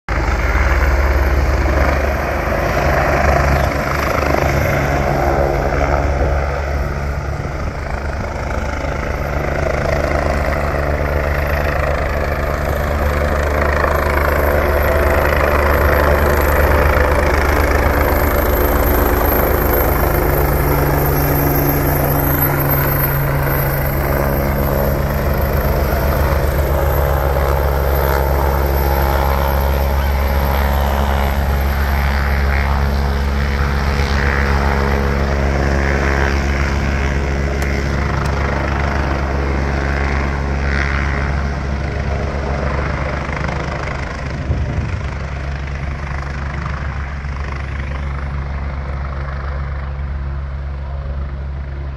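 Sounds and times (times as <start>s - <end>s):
helicopter rotor and engine: 0.1s - 51.9s.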